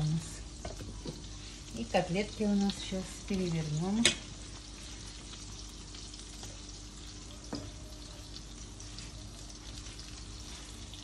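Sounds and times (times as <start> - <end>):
cutlets sizzling in oil: 0.0 - 11.0.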